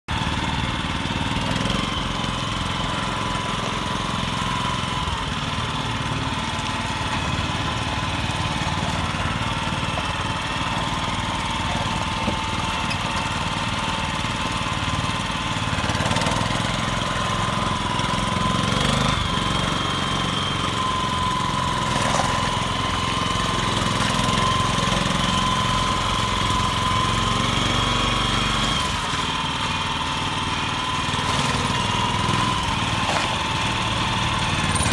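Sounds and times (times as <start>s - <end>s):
truck engine idling with whine: 0.1s - 34.9s.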